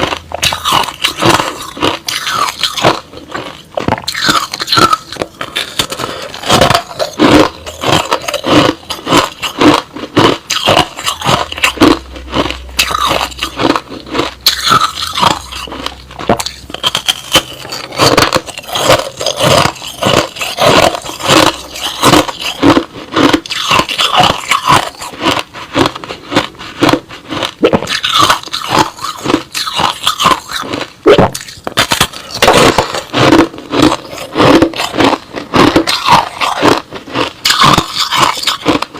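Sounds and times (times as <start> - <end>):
chewing crunchy ice slush: 0.0 - 38.9.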